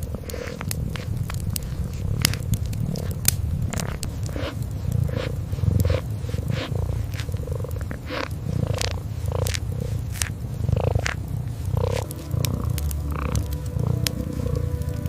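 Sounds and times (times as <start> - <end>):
kitten purring: 0.0 - 15.0
wood fire crackling: 0.0 - 15.0.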